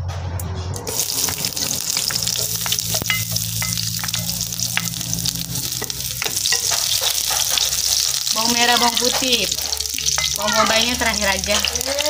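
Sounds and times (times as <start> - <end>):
food sizzling in hot oil: 0.9 - 12.0
oil crackling: 0.9 - 12.0.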